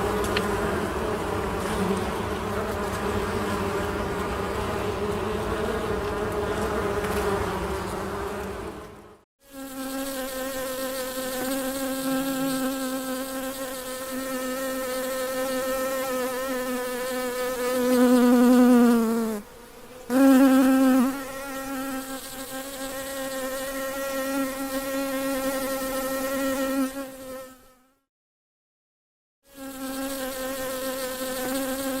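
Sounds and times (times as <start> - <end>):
honey bee buzzing: 0.0 - 28.0, 29.5 - 32.0.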